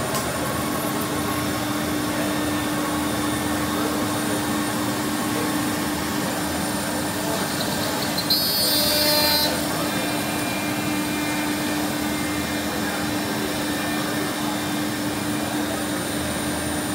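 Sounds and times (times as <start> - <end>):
router running with dust extraction: 0.0 - 16.9.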